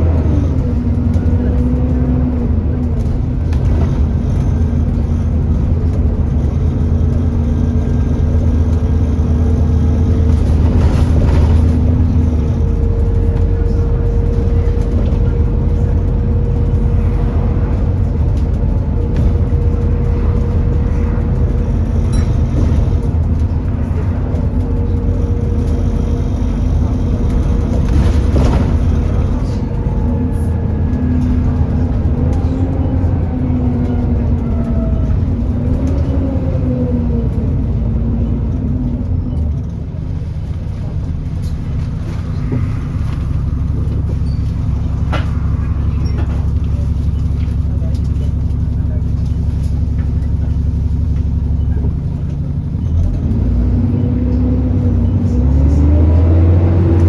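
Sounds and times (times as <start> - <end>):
bus engine rumble: 0.0 - 57.0.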